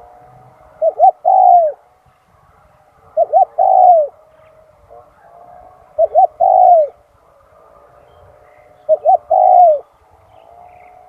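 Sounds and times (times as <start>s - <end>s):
dove cooing: 0.0s - 11.0s
faint distant dove calls: 0.0s - 11.0s.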